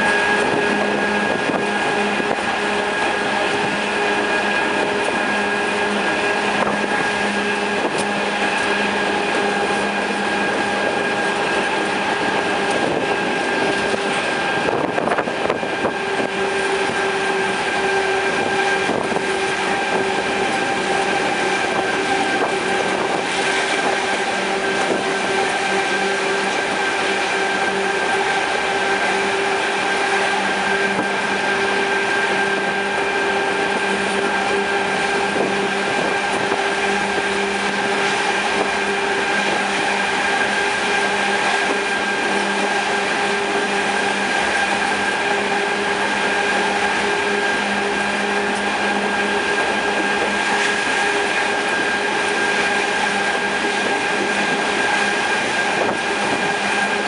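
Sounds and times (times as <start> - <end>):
locomotive hum: 0.0 - 57.0
train wheel and track noise: 0.0 - 57.0.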